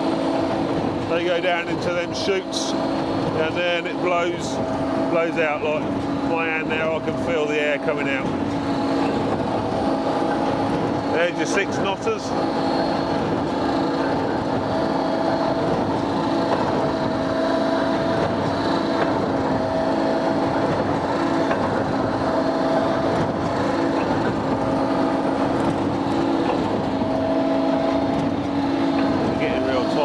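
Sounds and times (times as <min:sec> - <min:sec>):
baler mechanical hum: 0:00.0 - 0:30.0
higher machine tone: 0:00.0 - 0:30.0.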